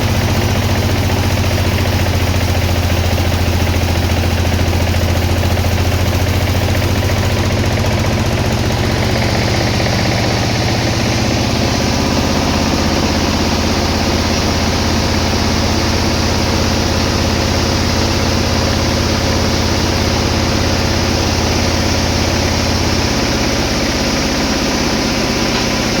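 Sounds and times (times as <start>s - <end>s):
sawmill machinery droning: 0.0s - 26.0s.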